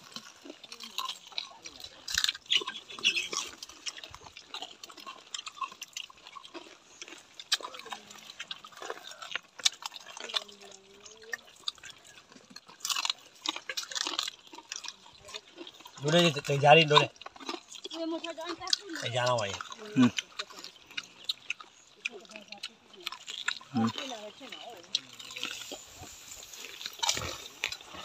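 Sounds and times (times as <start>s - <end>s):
crunchy chewing of fried food: 0.0s - 28.0s.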